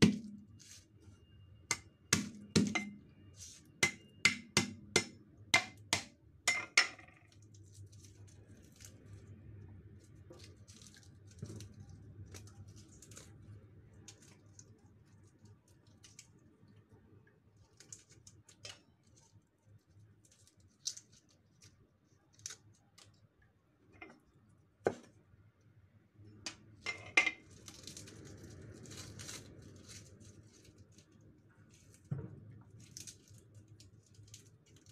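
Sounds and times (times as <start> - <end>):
papery garlic skins crackling: 0.0 - 6.1, 7.3 - 16.8, 17.5 - 23.3, 27.4 - 34.9.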